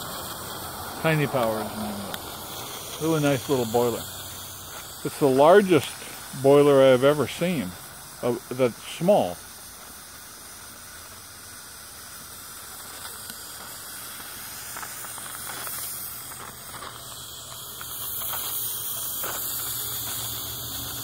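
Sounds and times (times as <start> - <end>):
steam boiler hissing: 0.0 - 21.0.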